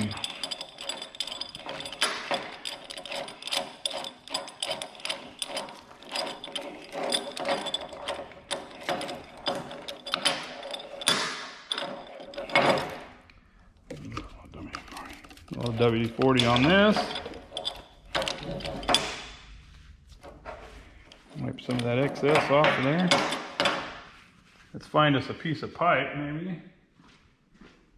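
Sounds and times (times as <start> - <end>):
metal chain clinking and rattling: 0.0 - 24.3.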